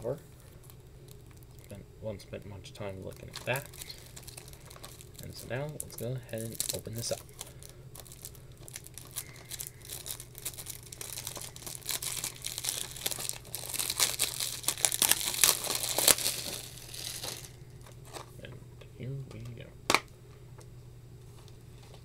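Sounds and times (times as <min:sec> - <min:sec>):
plastic shrink-wrap crinkling: 0:00.0 - 0:18.4.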